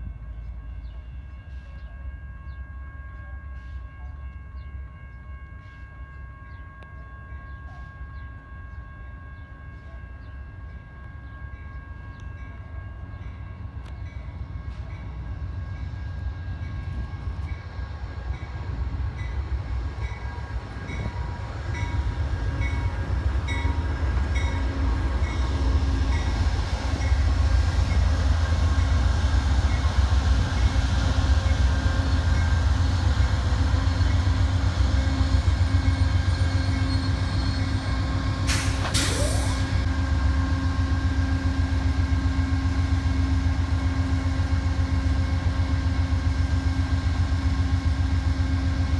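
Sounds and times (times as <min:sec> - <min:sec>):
train low rumble: 0:00.0 - 0:48.9.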